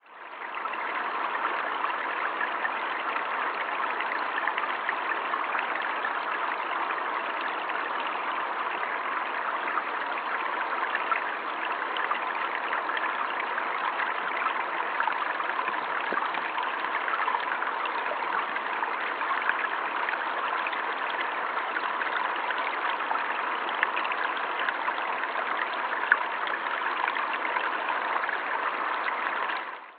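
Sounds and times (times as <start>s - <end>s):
river water flowing: 0.0s - 29.9s.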